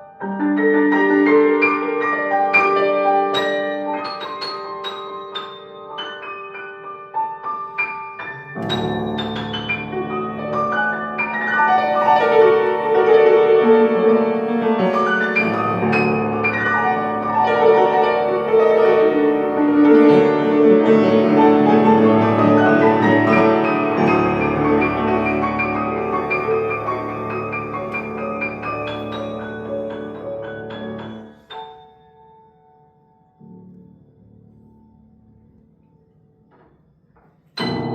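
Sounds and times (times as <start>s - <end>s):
solo piano playing: 0.0s - 36.4s, 37.6s - 37.9s.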